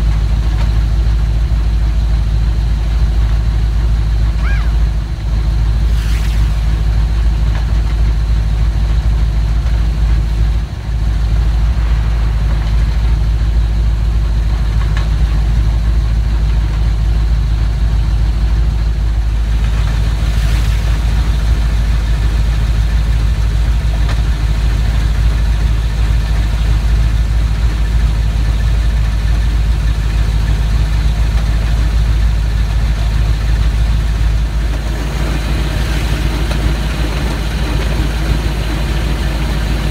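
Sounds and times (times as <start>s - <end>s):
car engine idling: 0.0s - 39.9s
driveline rattling and grinding: 5.0s - 39.9s.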